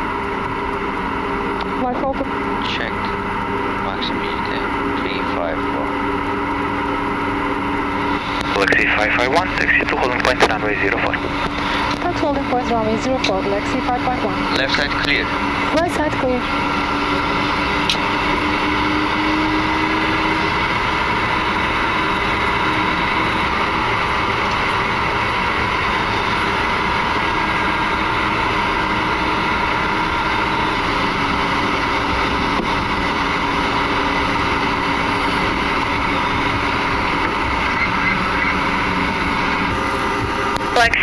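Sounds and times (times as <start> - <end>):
faint steady tones: 0.0 - 41.0
jet engines idling hum and hiss: 0.0 - 41.0.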